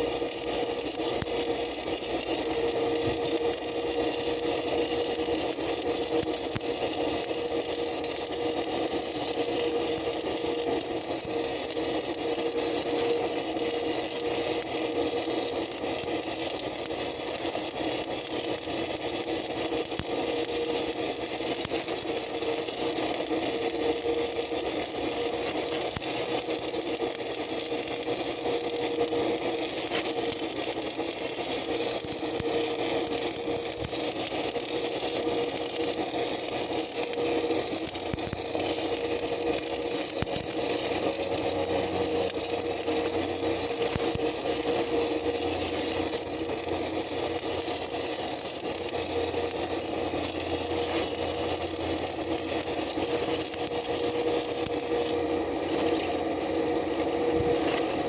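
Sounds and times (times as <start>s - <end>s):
welding arc crackling and hissing: 0.0s - 58.0s.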